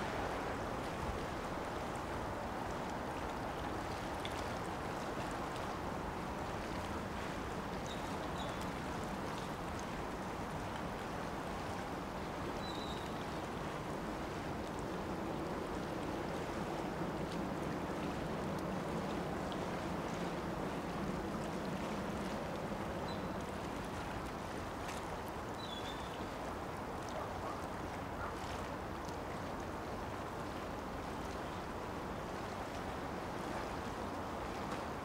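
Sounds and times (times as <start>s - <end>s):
light wind: 0.0s - 35.0s.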